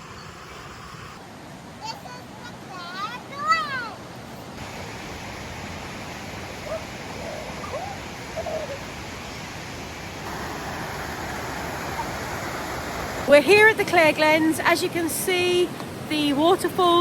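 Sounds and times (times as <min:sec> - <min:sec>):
river and small waterfalls rushing: 0:00.0 - 0:17.0.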